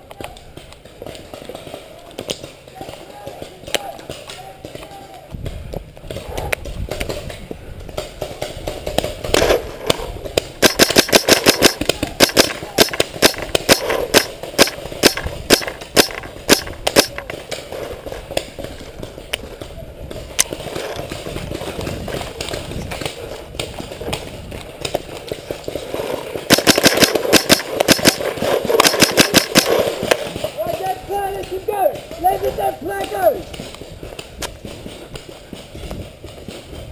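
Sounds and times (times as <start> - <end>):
paintball markers firing rapidly: 6.0 - 35.6.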